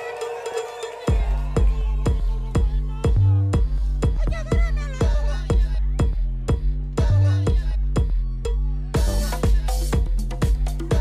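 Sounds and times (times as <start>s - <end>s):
house music: 0.0s - 11.0s
kick drum and bassline: 0.0s - 11.0s.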